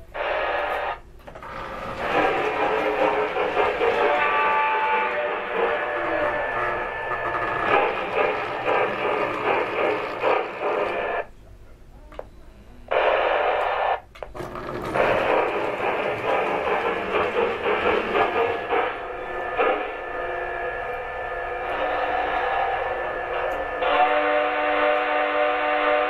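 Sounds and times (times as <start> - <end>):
model steam locomotive running: 0.0 - 11.3, 13.0 - 26.0.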